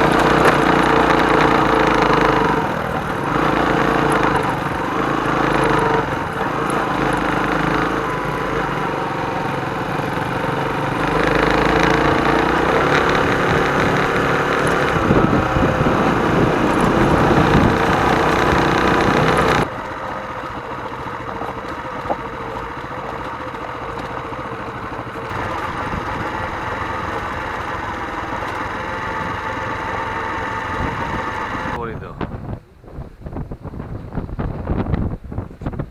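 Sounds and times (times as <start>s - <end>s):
motorcycle engine running: 0.0s - 31.8s.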